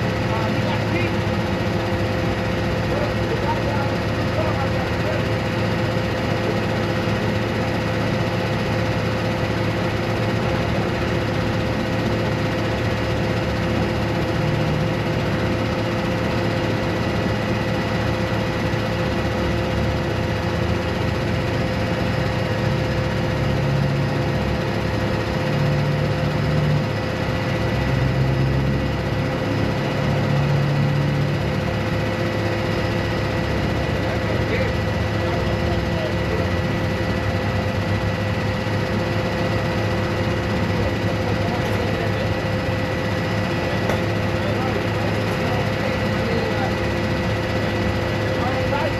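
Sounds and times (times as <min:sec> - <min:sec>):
constant whine: 0:00.0 - 0:48.9
vehicle engine running: 0:00.0 - 0:48.9.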